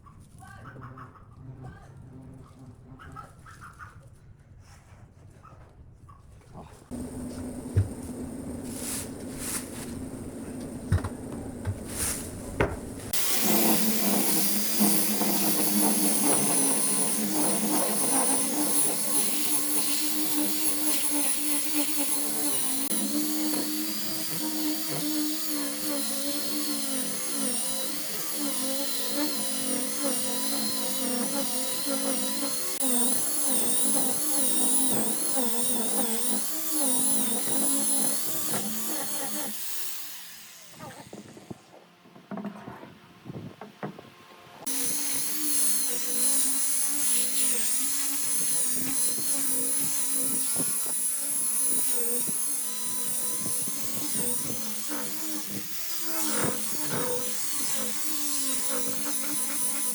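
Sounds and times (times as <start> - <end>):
power tool motor whine: 6.9 - 41.6, 44.6 - 59.9.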